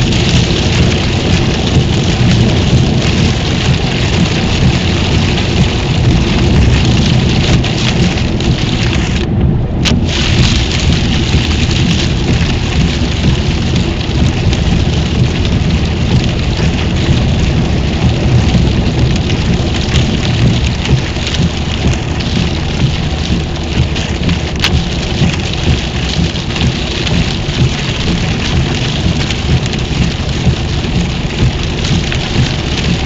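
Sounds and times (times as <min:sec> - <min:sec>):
rain hissing on windscreen: 0:00.0 - 0:33.0
tyres rumbling on wet road: 0:00.0 - 0:33.0.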